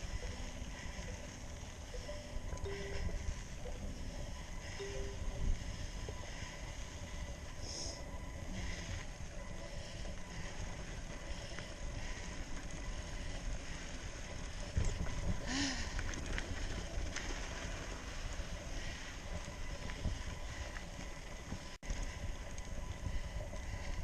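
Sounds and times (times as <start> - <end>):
bike tyres rumbling on dirt: 0.0 - 24.0
rustle: 0.0 - 24.0
wind on microphone: 0.0 - 24.0.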